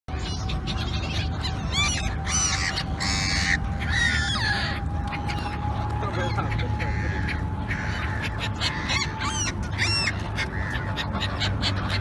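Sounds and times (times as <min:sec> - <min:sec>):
birds calling harshly: 0:00.1 - 0:12.0
steady low rumble: 0:00.1 - 0:12.0.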